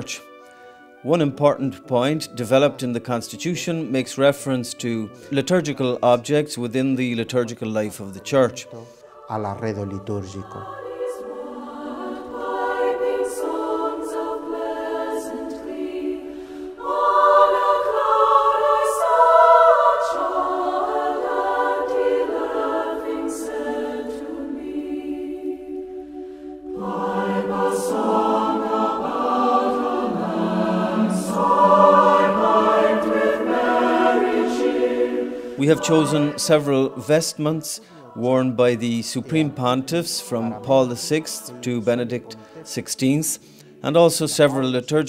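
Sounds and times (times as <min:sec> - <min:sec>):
choir singing held chords: 0:00.0 - 0:45.0.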